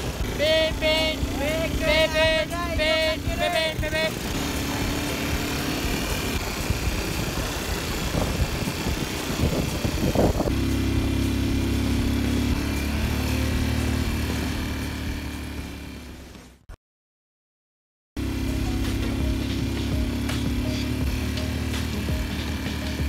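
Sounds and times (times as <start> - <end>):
atv engine running: 0.0 - 16.7, 18.2 - 23.0.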